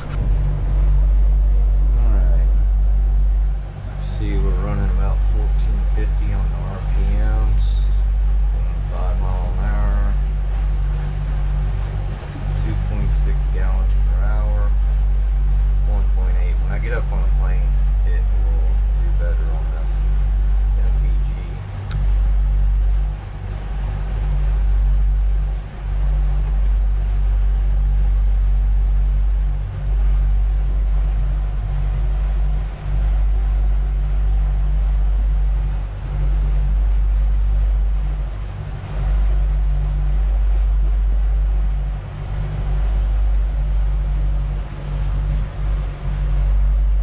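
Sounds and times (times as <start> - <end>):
heavy low rumble: 0.0 - 47.0
outboard engines running: 0.0 - 47.0.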